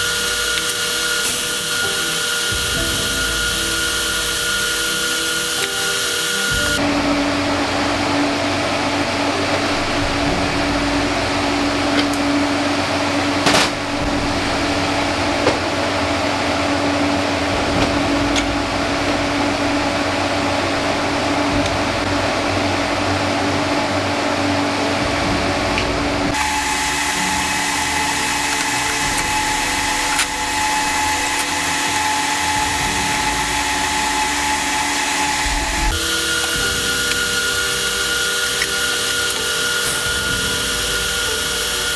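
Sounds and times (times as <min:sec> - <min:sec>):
workshop tool whirring: 0:00.0 - 0:41.9.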